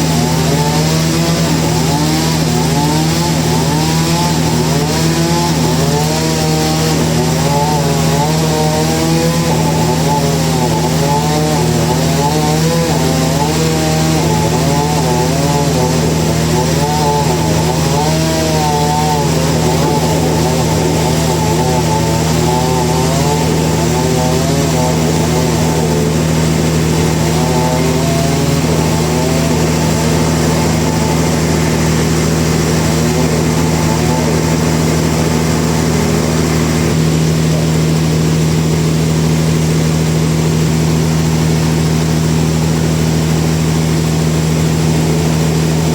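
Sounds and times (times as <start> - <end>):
machinery humming: 0.0 - 45.9
saw cutting with wavering pitch: 0.0 - 45.9.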